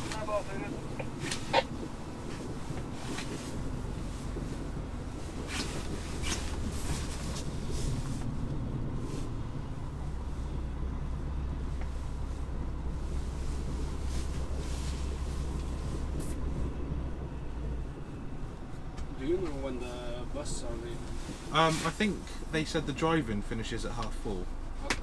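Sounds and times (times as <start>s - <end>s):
truck diesel engine in cab: 0.0s - 25.0s.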